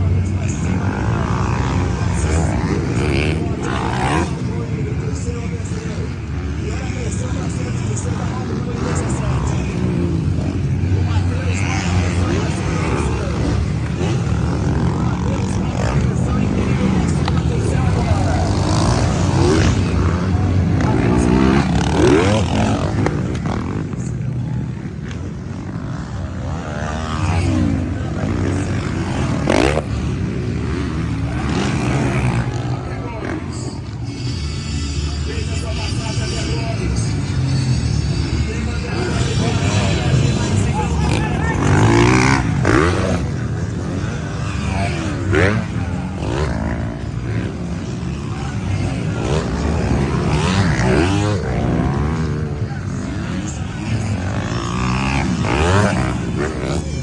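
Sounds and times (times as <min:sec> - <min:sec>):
low rumble of engines: 0:00.0 - 0:57.0
motocross bikes revving: 0:00.0 - 0:57.0.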